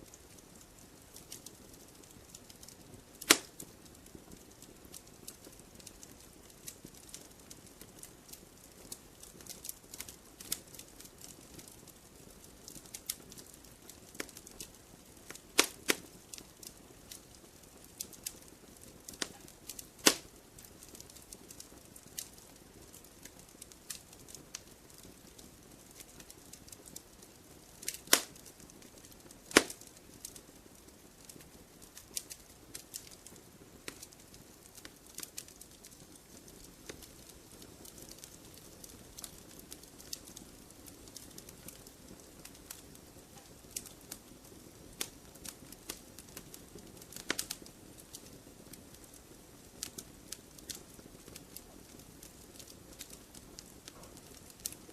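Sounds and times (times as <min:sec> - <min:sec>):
sharp pops from fire: 0:00.0 - 0:54.9
wood fire crackling: 0:00.0 - 0:54.9.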